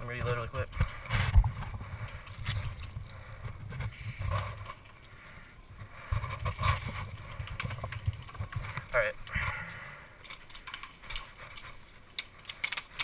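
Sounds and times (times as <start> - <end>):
low wind rumble: 0.0 - 12.2.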